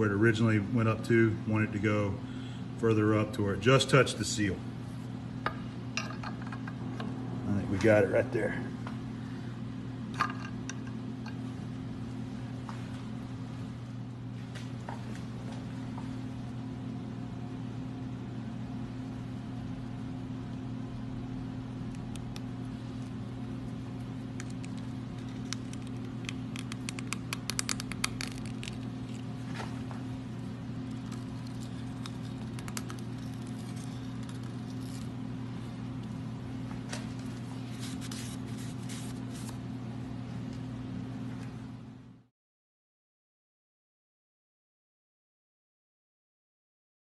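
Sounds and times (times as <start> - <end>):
shop machinery hum: 0.0 - 42.2.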